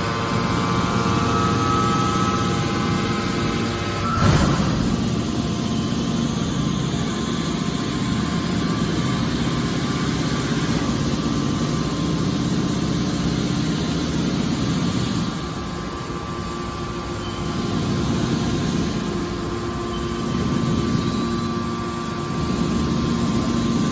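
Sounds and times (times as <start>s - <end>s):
baler machinery humming: 0.0s - 23.9s.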